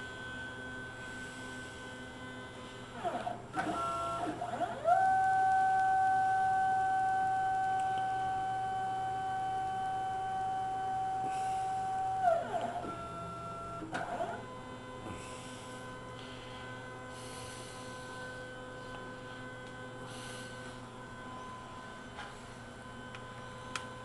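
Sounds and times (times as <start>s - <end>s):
stepper motors whining: 1.8s - 24.0s.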